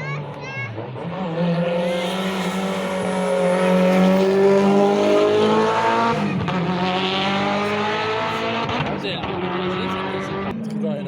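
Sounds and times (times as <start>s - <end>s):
rally car engine revving hard: 0.6s - 10.6s.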